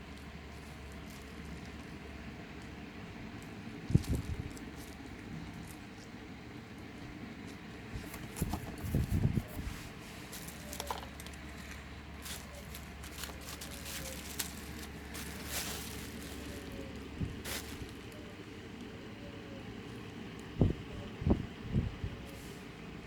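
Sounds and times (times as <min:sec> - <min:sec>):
handling clicks and rustles: 0:00.0 - 0:18.9.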